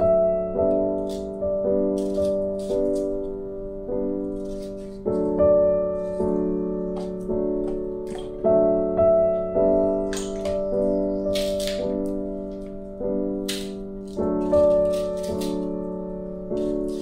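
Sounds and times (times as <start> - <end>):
gentle piano chords: 0.0 - 17.0.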